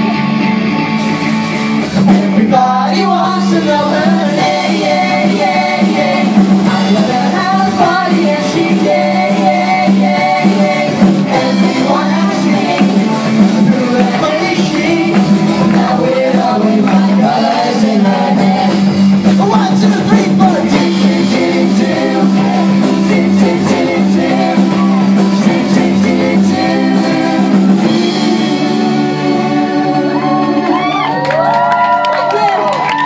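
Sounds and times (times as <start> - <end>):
live rock band playing: 0.0 - 32.4
group of singers: 1.8 - 31.9.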